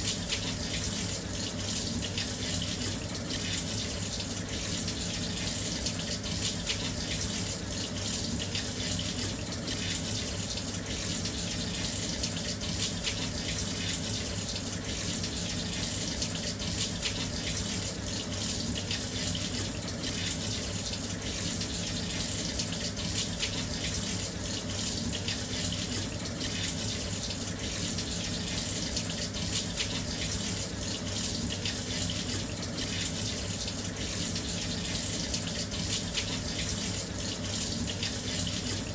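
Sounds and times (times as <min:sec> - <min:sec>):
water rushing into washing machine: 0:00.0 - 0:38.9.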